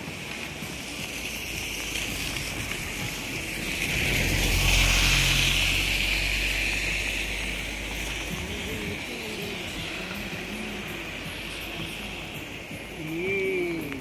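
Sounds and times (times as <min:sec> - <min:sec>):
tyre hiss on wet road: 0:00.0 - 0:14.0
vehicle engine hum: 0:00.0 - 0:14.0.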